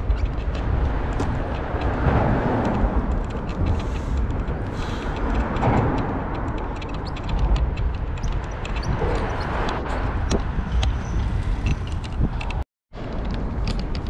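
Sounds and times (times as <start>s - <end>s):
bicycle rolling rumble: 0.0s - 14.0s
light rattling ticks: 0.0s - 14.0s
wind rushing over microphone: 0.0s - 14.0s.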